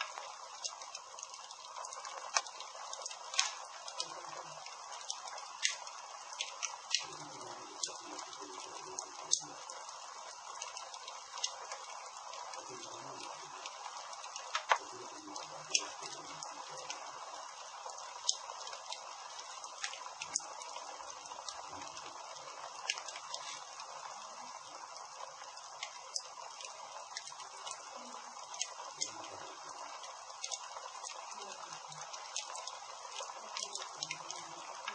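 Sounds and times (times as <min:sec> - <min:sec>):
campfire hissing: 0:00.0 - 0:34.9
fire crackles and pops: 0:00.0 - 0:34.9.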